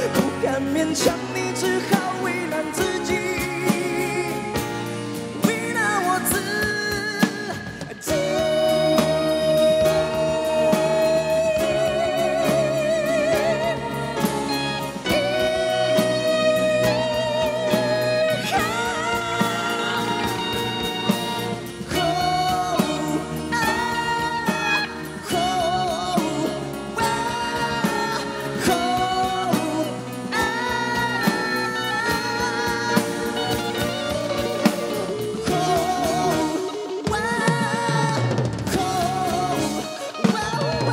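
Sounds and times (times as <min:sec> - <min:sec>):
live band with drums: 0:00.0 - 0:40.9
man singing long held notes: 0:00.0 - 0:40.9.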